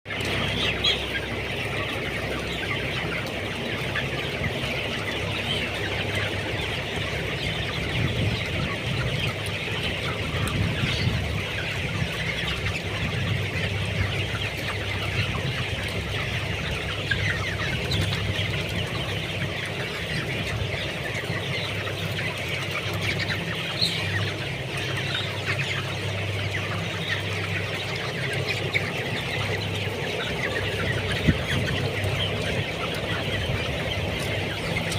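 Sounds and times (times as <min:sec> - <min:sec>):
chickens peeping and clucking: 0:00.0 - 0:34.9.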